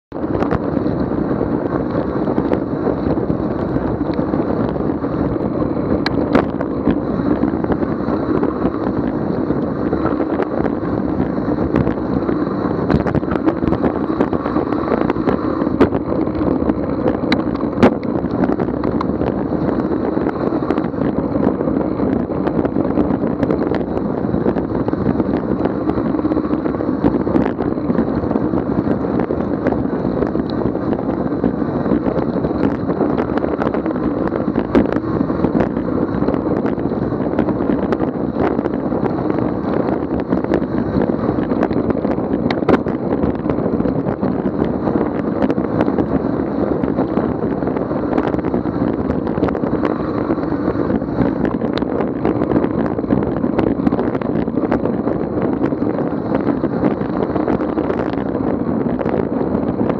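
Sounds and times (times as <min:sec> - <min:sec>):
wind on microphone: 0:00.0 - 0:59.9
bike tyres on snow: 0:00.1 - 0:59.9.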